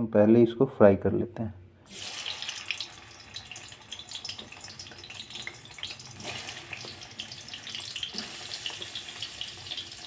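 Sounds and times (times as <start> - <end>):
cheese cubes sizzling in hot oil: 1.9 - 10.0.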